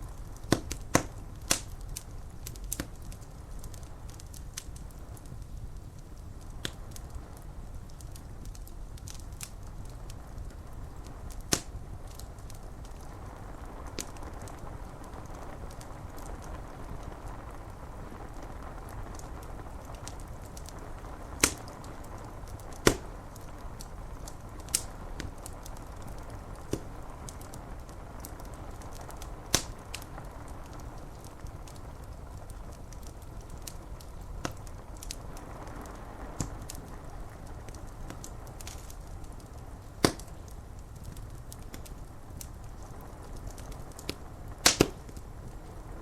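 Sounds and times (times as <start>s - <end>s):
wood fire crackling and popping: 0.0s - 46.0s
rain hissing: 4.9s - 46.0s.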